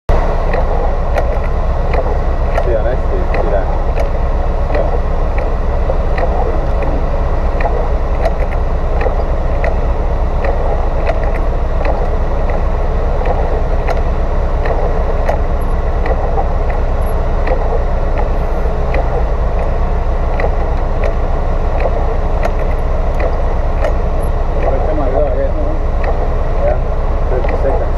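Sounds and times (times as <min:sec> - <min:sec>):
engine idling: 0:00.1 - 0:27.9
light regular tick: 0:00.4 - 0:27.9.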